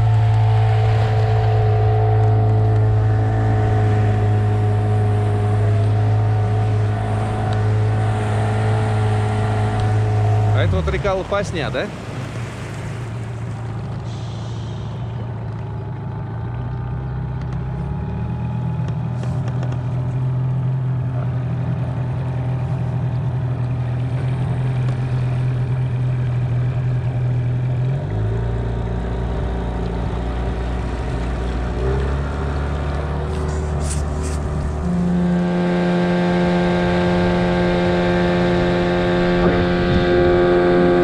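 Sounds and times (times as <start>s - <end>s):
motorboat engine running: 0.0s - 41.0s.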